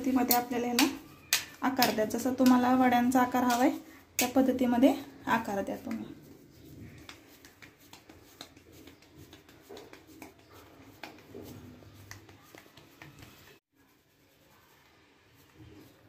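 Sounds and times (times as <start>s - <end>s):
hands patting dough: 0.0s - 16.0s.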